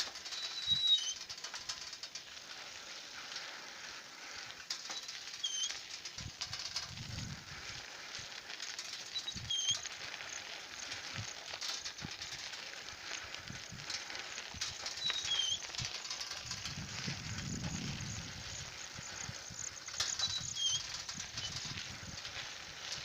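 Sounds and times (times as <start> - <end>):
steady hiss: 1.2 - 23.0.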